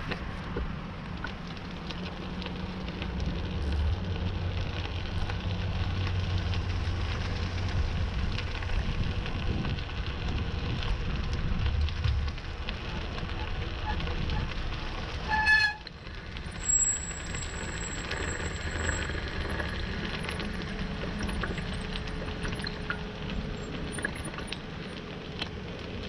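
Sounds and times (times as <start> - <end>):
low engine hum: 0.0 - 15.3, 15.9 - 26.0
bicycle tyre and wind noise: 0.0 - 26.0.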